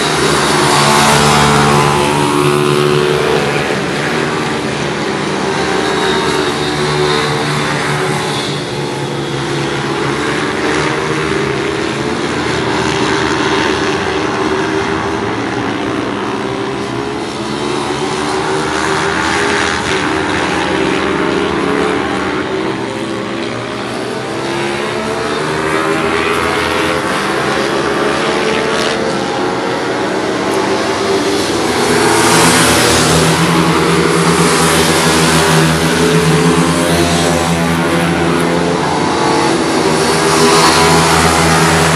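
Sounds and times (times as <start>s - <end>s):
motorbike engines revving: 0.0s - 41.9s
motorbikes passing close by: 0.0s - 41.9s.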